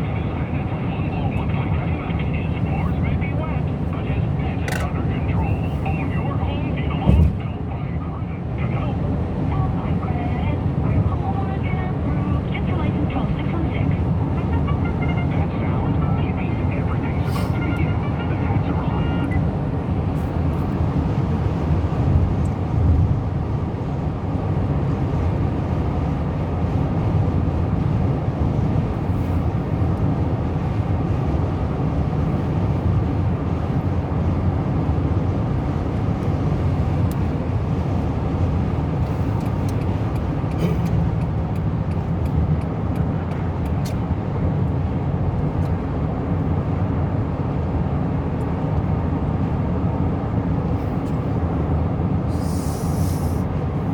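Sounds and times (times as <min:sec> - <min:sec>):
car road and engine rumble: 0:00.0 - 0:53.9.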